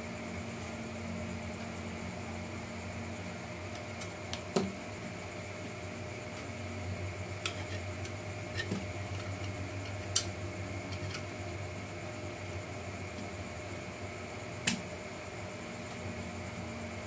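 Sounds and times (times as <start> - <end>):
fan hum: 0.0 - 17.0.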